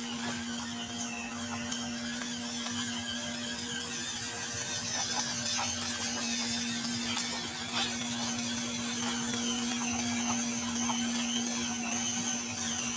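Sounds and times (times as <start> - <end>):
toy truck electric motor whirring: 0.0 - 12.9.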